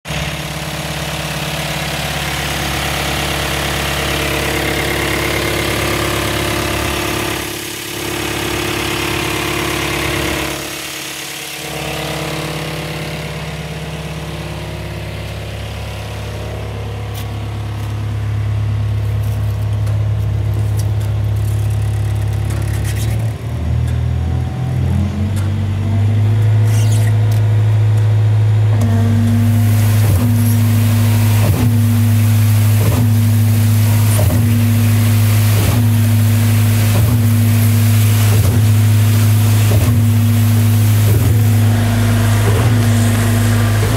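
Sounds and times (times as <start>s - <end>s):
concrete pump mechanical drone: 0.1s - 43.9s.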